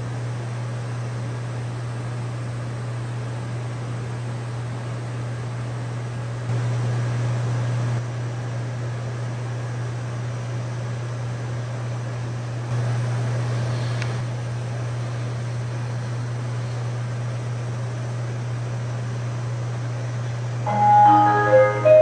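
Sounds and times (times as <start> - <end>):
low machine hum with hiss: 0.0 - 22.0.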